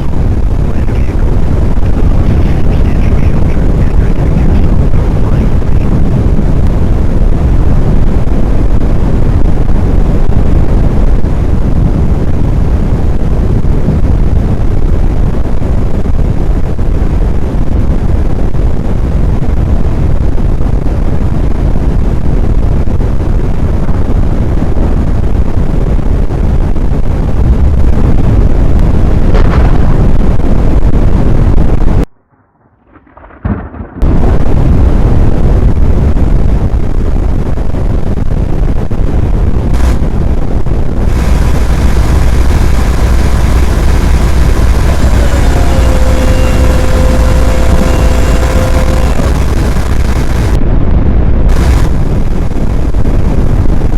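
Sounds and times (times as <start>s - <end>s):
wind buffeting microphone: 0.0s - 32.1s, 32.8s - 53.9s.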